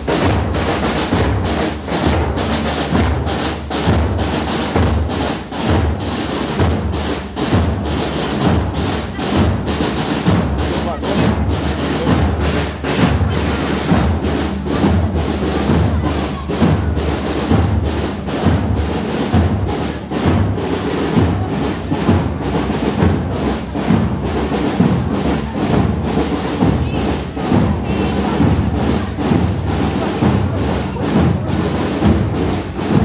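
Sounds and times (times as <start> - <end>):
bass drum beating: 0.0 - 33.0
marching drums: 0.0 - 33.0.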